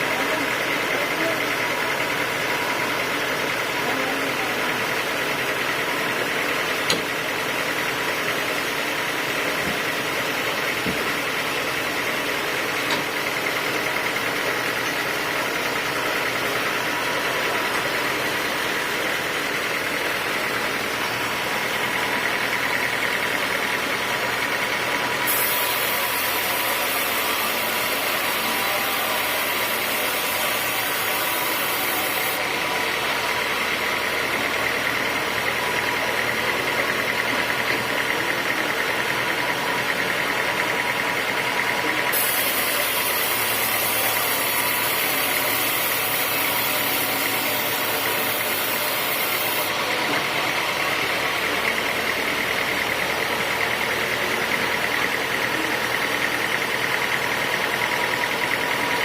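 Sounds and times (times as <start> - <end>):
sawmill machinery whining: 0.0 - 59.0.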